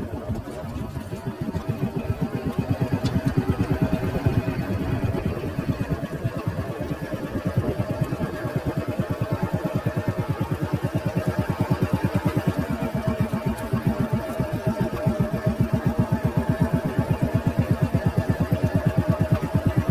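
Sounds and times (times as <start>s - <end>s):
vehicle engine running: 0.0s - 19.9s.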